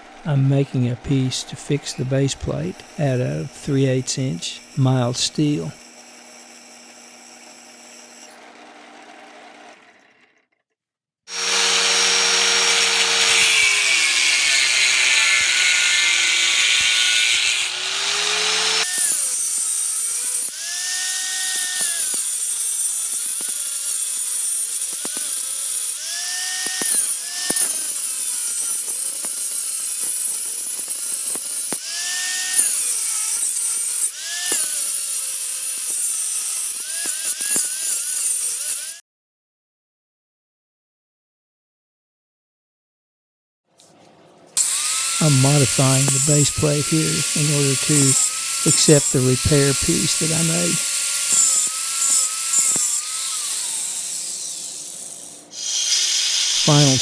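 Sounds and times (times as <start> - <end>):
power tool grinding steel: 0.0 - 10.7, 11.3 - 39.0, 44.6 - 57.0.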